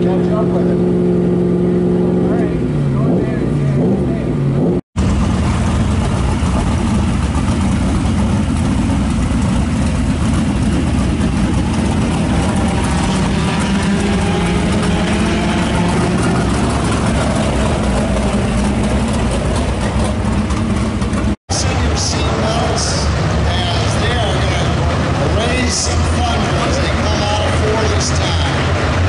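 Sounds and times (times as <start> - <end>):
race car engine idling: 0.0 - 29.0.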